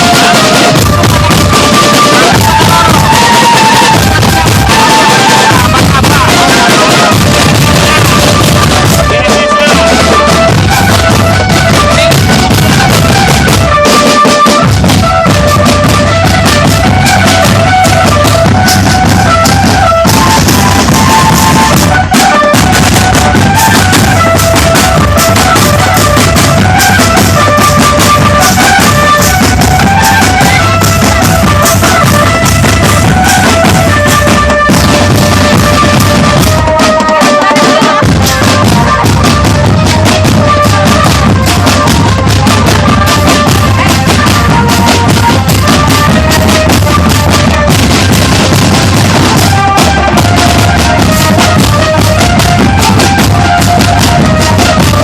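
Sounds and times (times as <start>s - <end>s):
band melody of held notes: 0.0s - 55.0s
marching drums beating: 0.0s - 55.0s.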